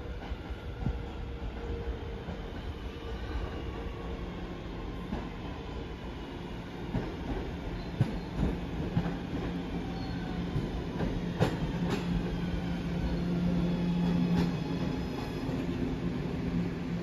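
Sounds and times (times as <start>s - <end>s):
subway train hum: 0.0s - 17.0s.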